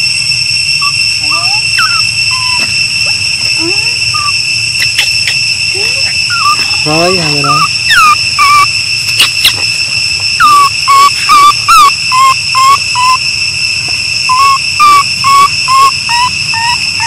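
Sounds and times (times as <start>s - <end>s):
baby monkey crying coos: 0.8s - 9.6s, 10.4s - 13.2s, 14.3s - 17.0s.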